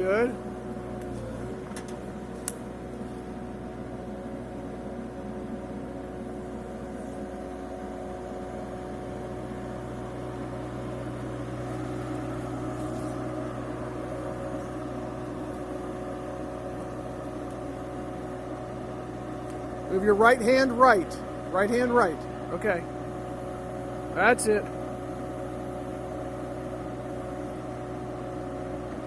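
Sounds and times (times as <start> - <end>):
excavator diesel engine droning: 0.0 - 29.0.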